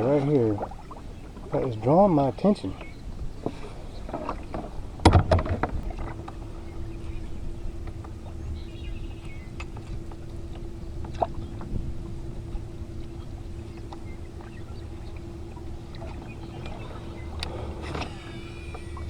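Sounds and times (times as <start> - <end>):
steady low hum: 0.0 - 19.0
wind rumbling on microphone: 0.0 - 19.0
kayak clicks and knocks: 1.4 - 19.0.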